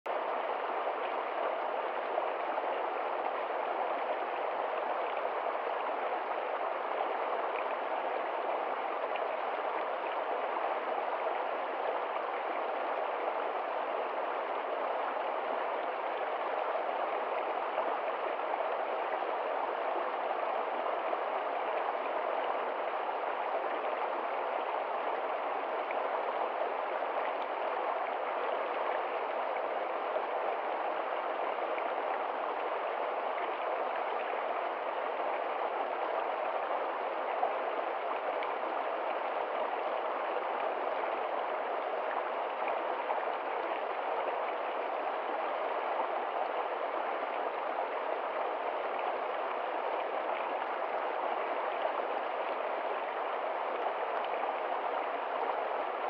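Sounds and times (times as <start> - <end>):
stream running over rocks: 0.1 - 56.0.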